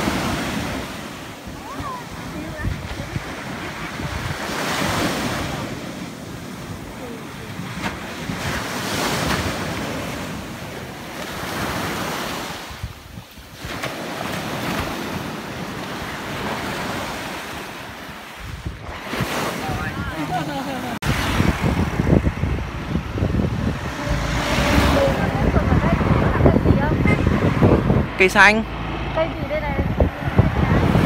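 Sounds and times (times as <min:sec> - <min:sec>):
small waves breaking on beach: 0:00.0 - 0:31.0
wind buffeting microphone: 0:00.0 - 0:31.0.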